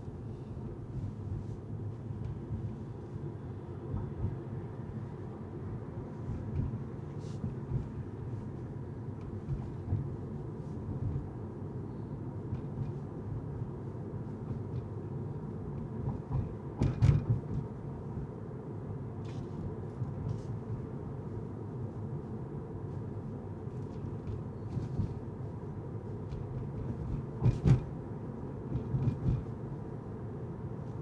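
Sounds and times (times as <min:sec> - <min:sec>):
car tyres and engine rumbling: 0:00.0 - 0:31.0.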